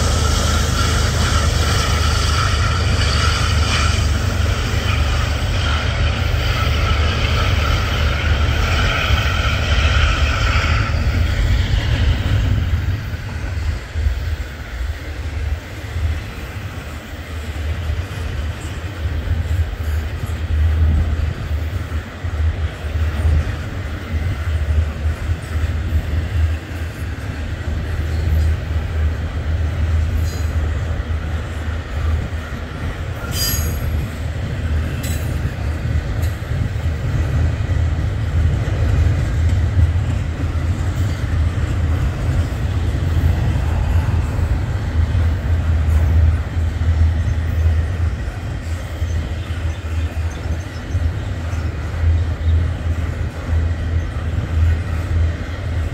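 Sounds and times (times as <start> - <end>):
high steady squeal: 0.0 - 14.7, 22.5 - 55.8
freight train rumbling on rails: 0.0 - 55.9.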